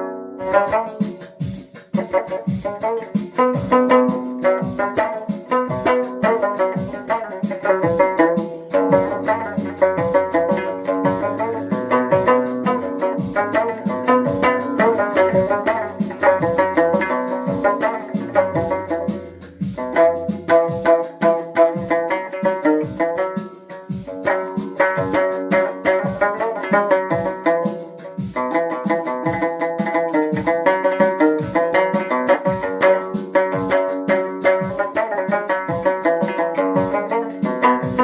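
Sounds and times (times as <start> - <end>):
pitched melody: 0.0 - 38.0
fast drum beat: 0.4 - 38.0.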